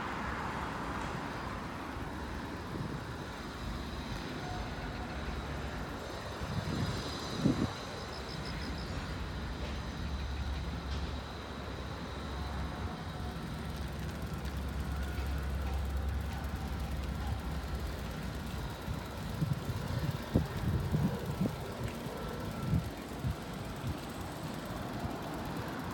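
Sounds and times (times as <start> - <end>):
wind and road noise: 0.0 - 25.9.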